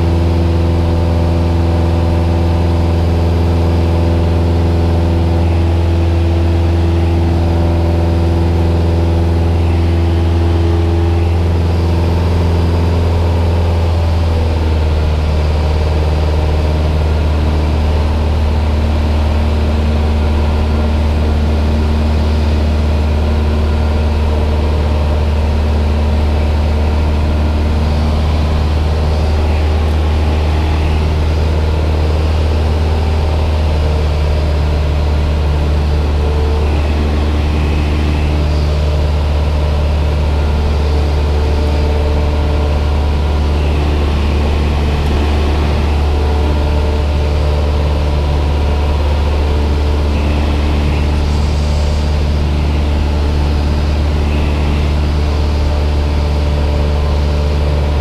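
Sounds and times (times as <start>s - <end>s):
airplane engine drone in cabin: 0.0s - 58.0s.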